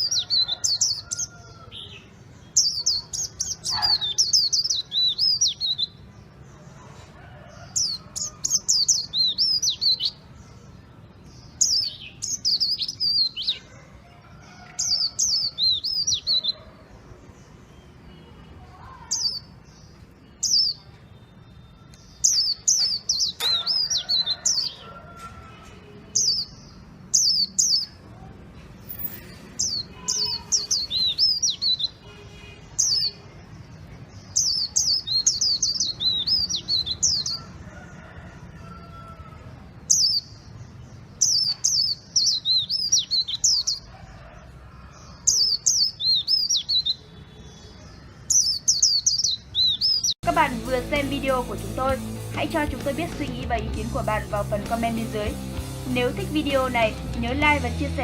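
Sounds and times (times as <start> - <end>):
songbird singing: 0.0 - 28.1, 28.8 - 58.0.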